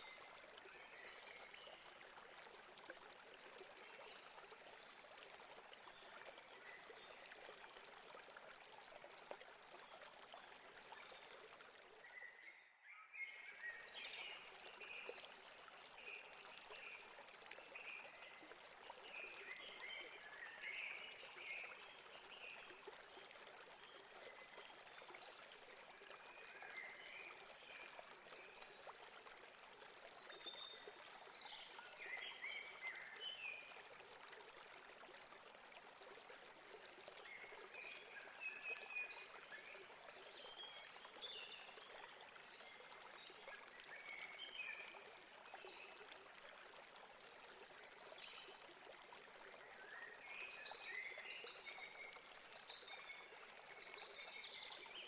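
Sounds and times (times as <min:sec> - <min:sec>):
flowing stream: 0:00.0 - 0:55.0.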